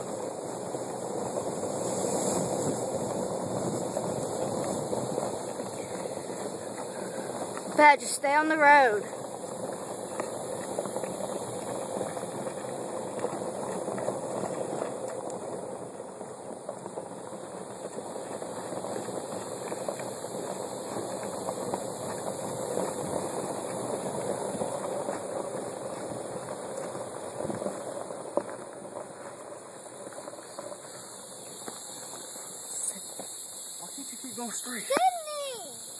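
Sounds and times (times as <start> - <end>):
footsteps on gravel: 0.0 - 32.2
bicycle tyres rolling on gravel: 0.0 - 35.9.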